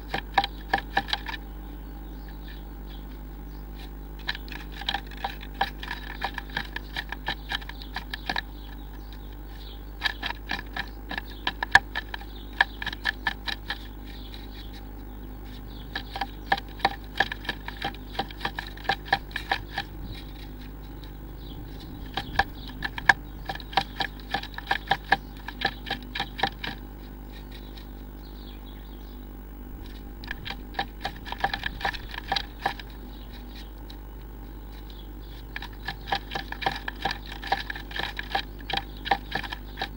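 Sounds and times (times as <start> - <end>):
bird tapping on wood: 0.0 - 1.4, 4.2 - 9.2, 10.0 - 14.8, 15.6 - 27.9, 29.8 - 34.0, 34.7 - 39.9
low steady hum: 0.0 - 39.9.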